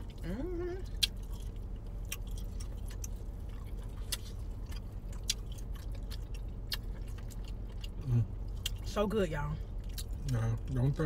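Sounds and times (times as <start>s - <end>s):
person chewing food: 0.0s - 8.9s, 9.7s - 11.0s
low steady hum: 0.0s - 11.0s.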